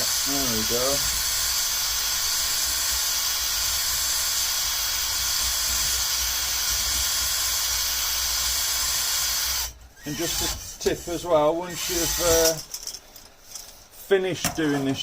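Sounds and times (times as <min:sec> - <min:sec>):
drill spinning cylinder hone: 0:00.0 - 0:12.6.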